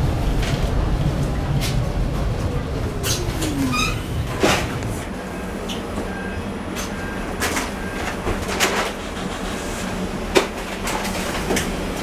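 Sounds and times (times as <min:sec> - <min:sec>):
street noise: 0:00.0 - 0:12.0
tram humming: 0:00.0 - 0:12.0.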